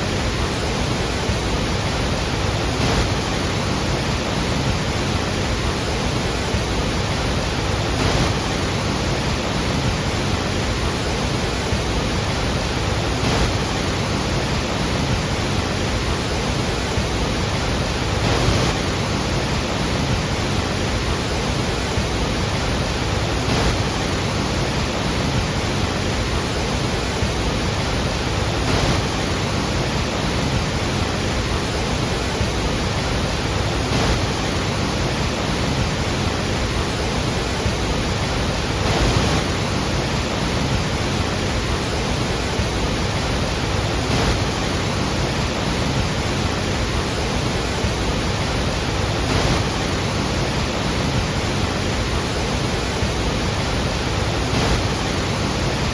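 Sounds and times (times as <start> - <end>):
heavy waterfall rushing: 0.0 - 55.9.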